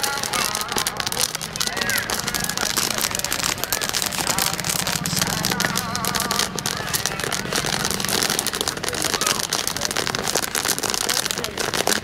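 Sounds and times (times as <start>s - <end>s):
corn popping in a pan: 0.0s - 12.0s.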